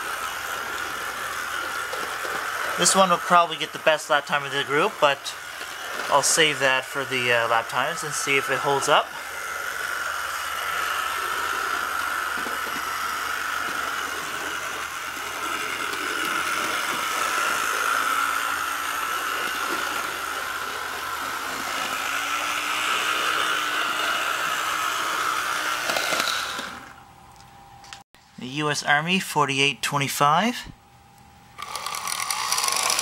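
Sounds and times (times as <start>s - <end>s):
small electric motor whirring: 0.0s - 27.1s, 31.6s - 33.0s.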